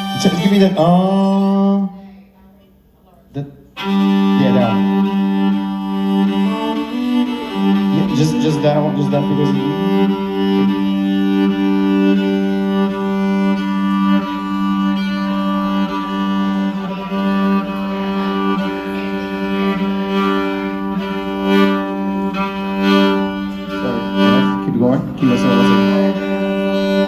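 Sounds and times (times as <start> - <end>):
fiddle playing long bowed note: 0.0 - 1.7, 3.8 - 27.0.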